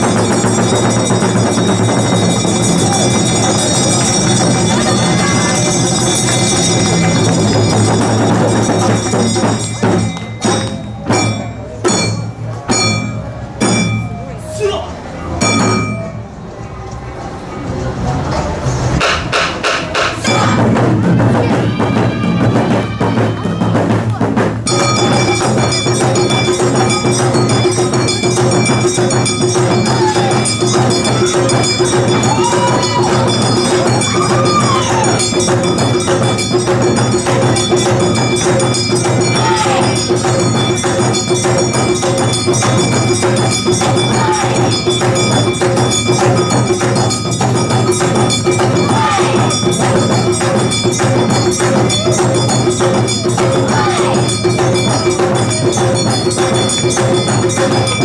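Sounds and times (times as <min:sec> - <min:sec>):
dance music with bells and percussion: 0:00.0 - 0:14.5, 0:15.4 - 0:16.3, 0:19.0 - 0:58.0.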